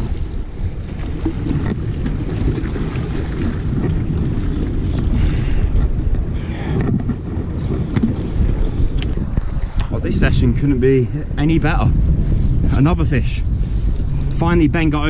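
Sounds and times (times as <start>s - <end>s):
surf washing against rocks: 0.0s - 13.5s
wind buffeting microphone: 0.0s - 15.0s.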